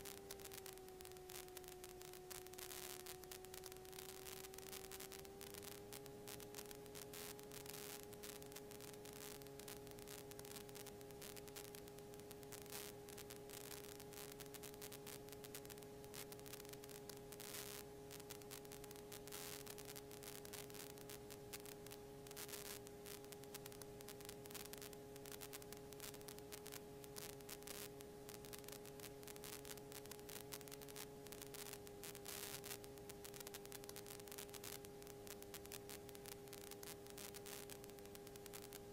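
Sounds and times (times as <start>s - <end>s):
crackling static hiss: 0.0s - 38.9s
faint electrical hum: 0.0s - 38.9s.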